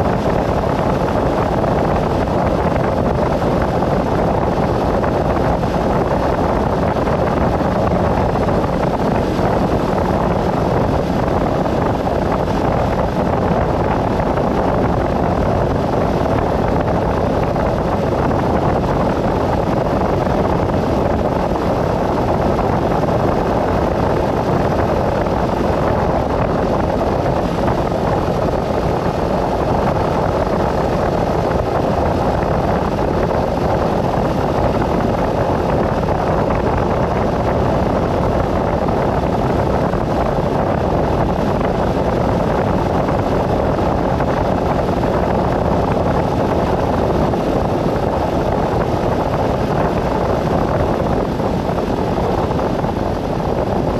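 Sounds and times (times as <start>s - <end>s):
road and wind noise from vehicle: 0.0s - 53.9s.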